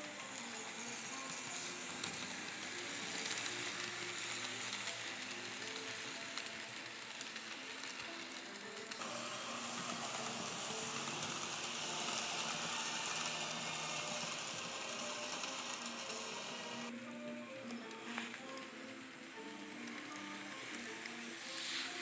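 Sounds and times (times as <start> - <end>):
model train motor whirring: 0.0 - 16.9, 17.6 - 22.0.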